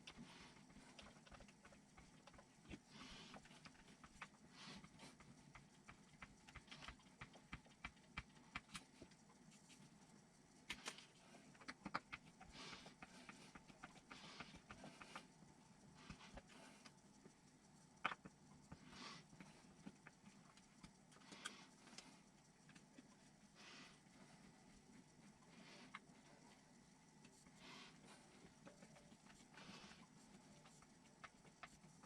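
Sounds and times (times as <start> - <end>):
faint clicks of small parts: 0.0 - 32.0.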